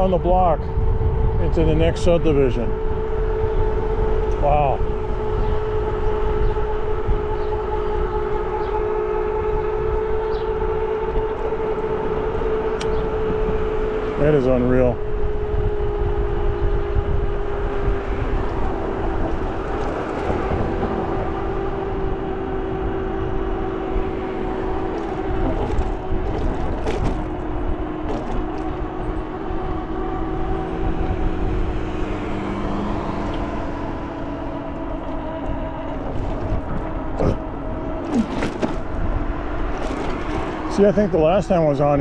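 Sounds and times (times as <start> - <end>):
wind on microphone: 0.0 - 41.8
electric bike motor whining: 0.0 - 42.0.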